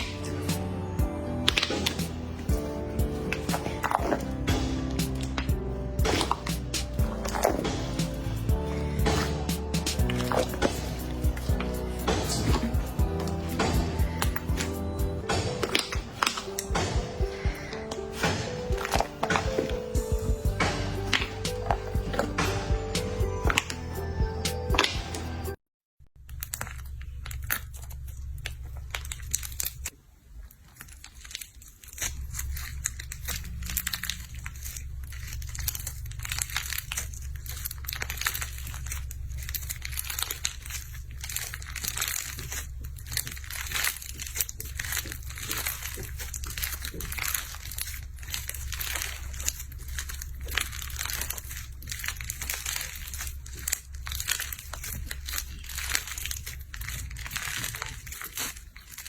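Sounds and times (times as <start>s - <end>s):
dense crackling and crinkling: 0.0s - 59.0s.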